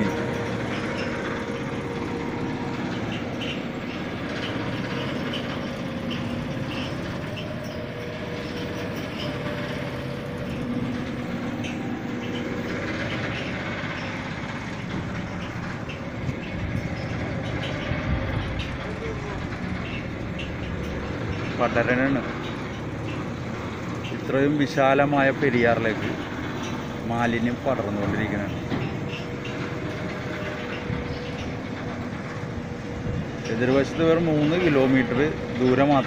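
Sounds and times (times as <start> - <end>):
low engine hum: 0.0 - 36.0
road traffic rumble: 0.0 - 36.0.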